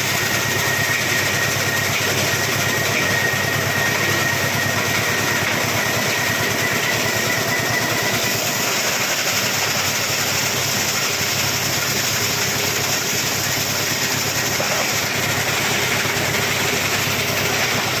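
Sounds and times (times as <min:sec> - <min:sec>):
plastic grinder running: 0:00.0 - 0:18.0.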